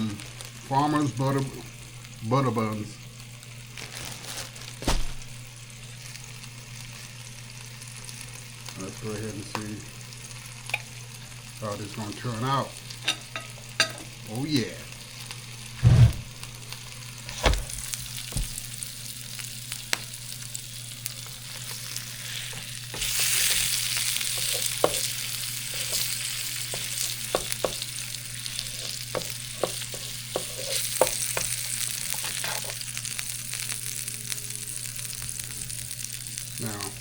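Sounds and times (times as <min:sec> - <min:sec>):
food sizzling on a grill: 0:00.0 - 0:37.0.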